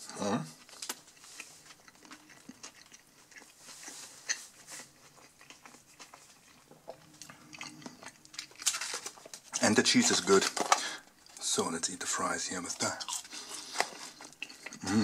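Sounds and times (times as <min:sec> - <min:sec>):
person chewing: 0:00.0 - 0:11.4, 0:12.6 - 0:15.0.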